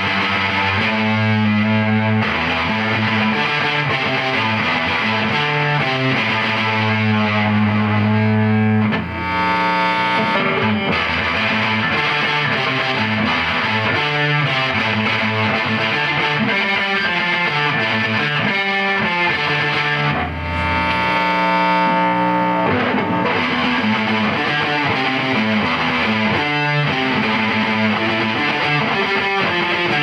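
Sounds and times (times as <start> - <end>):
fuzzy distorted electric guitar: 0.0 - 30.0.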